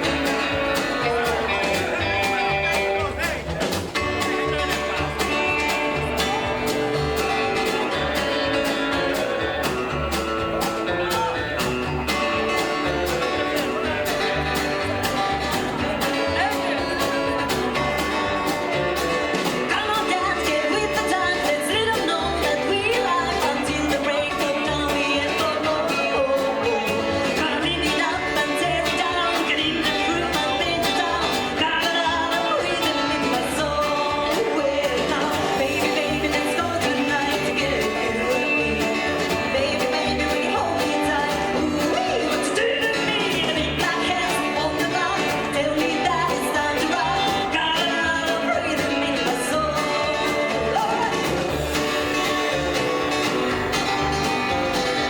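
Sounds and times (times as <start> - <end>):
guitar: 0.0 - 55.0
person singing: 0.0 - 55.0.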